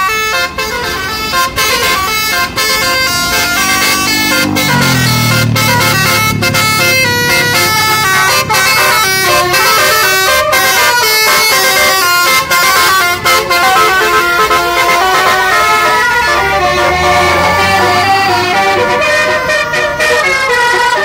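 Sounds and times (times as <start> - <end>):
bus air horns playing melody: 0.0 - 21.0.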